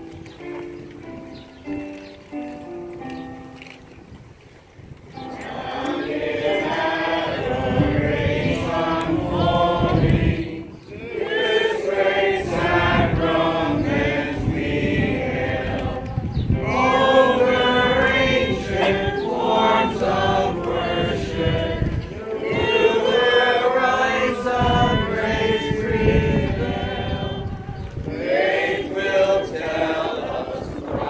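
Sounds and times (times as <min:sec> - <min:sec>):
congregation singing a hymn: 0:05.1 - 0:31.0.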